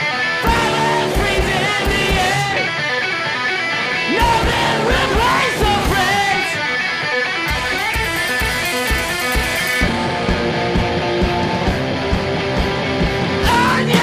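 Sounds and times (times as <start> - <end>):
heavy drums: 0.0 - 2.9, 4.0 - 6.7, 7.4 - 14.0
distorted electric guitars: 0.0 - 14.0.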